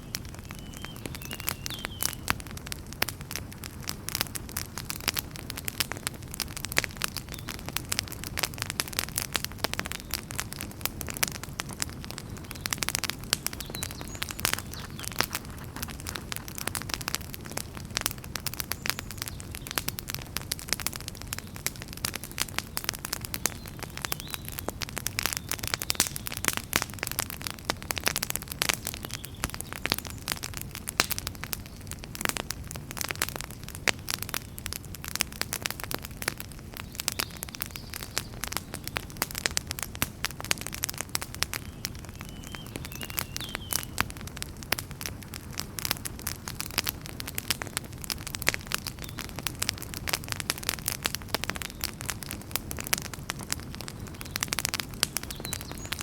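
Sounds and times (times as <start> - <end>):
fireplace fire crackling: 0.0 - 56.0
low rumble of flame: 0.0 - 56.0.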